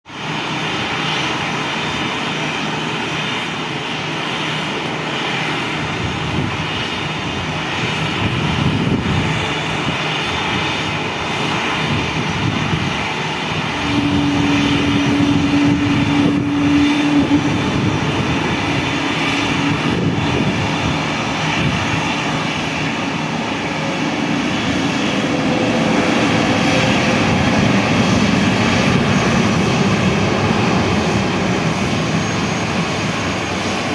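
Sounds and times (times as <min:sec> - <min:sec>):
jet engines during takeoff: 0:00.0 - 0:33.9.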